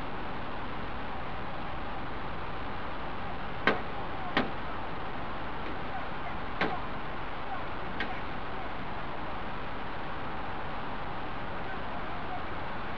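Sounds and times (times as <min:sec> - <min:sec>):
moving vehicle noise: 0:00.0 - 0:12.9.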